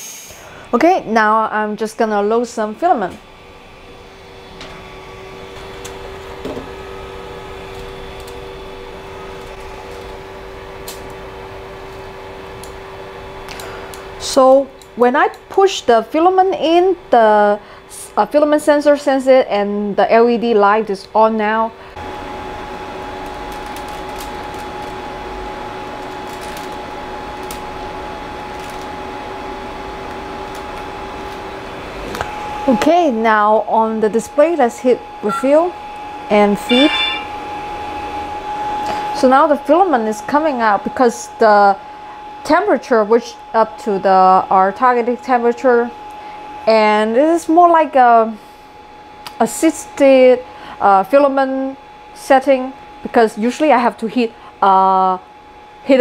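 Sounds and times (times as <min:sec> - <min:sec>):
cooling fans humming: 0:00.0 - 0:56.0.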